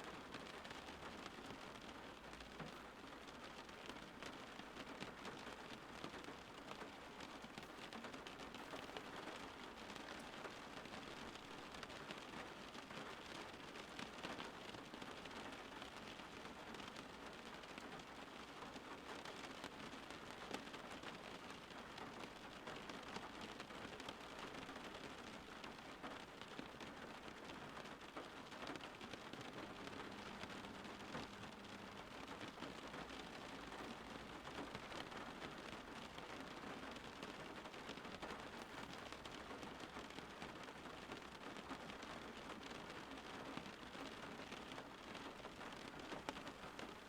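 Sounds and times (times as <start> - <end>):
rain falling on leaves: 0.0 - 47.0.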